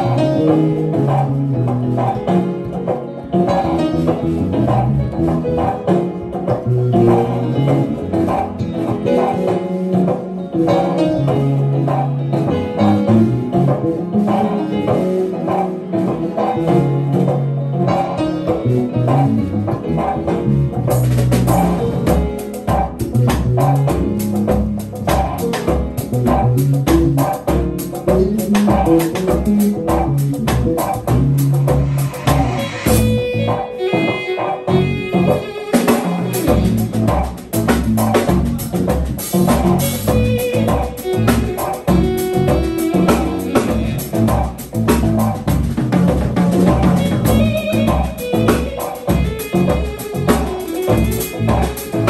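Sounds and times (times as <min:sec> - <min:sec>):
electric bass line: 0:00.0 - 0:15.5, 0:16.1 - 0:52.0
drum kit beat: 0:00.0 - 0:52.0
keyboard chords: 0:00.0 - 0:52.0.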